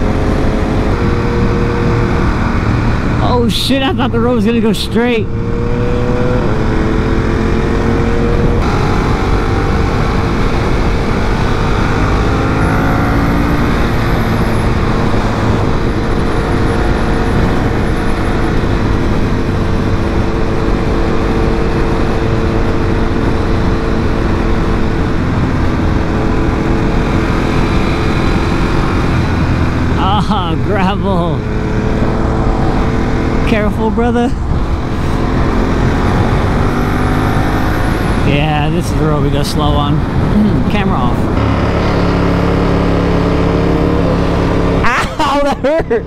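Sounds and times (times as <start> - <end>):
motorcycle engine running: 0.0 - 46.0
wind noise: 5.3 - 30.0, 31.4 - 44.9.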